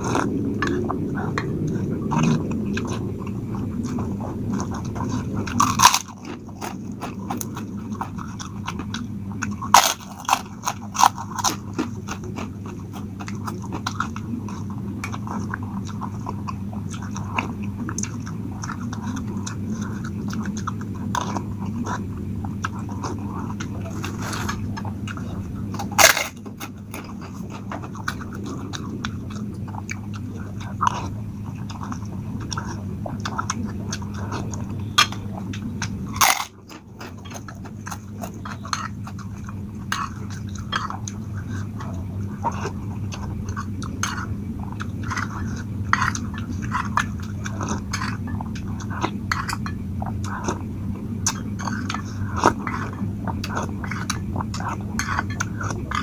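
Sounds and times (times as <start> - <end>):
sharp clicks and crunches: 0.0 - 50.6
chewing and slurping noodles: 0.0 - 56.0
steady low hum: 0.0 - 56.0.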